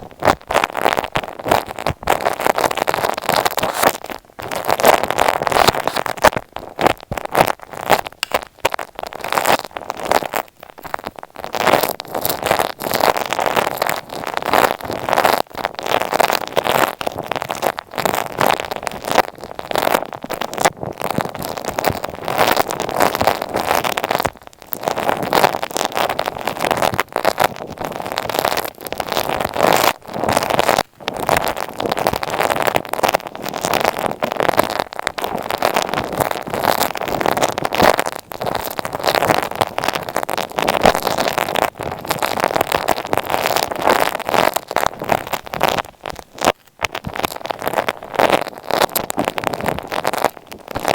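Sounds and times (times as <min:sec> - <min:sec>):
crackling rubbing on a microphone: 0:00.0 - 0:50.9.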